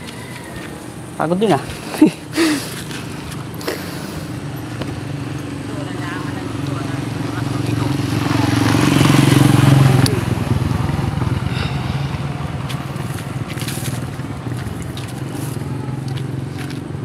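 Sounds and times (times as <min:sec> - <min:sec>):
motor engine running: 0:02.6 - 0:17.0.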